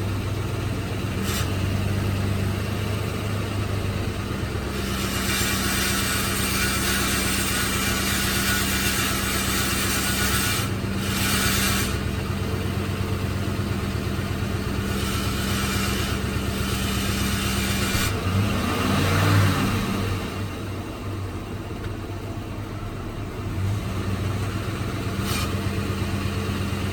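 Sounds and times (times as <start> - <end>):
car engine hum: 0.0 - 26.9.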